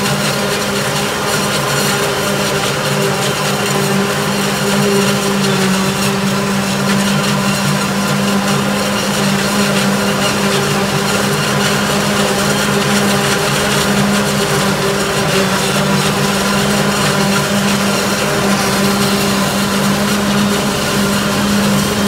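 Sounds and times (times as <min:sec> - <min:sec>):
harvester cutting gear whirring: 0:00.0 - 0:22.0
tractor diesel engine running: 0:00.0 - 0:22.0.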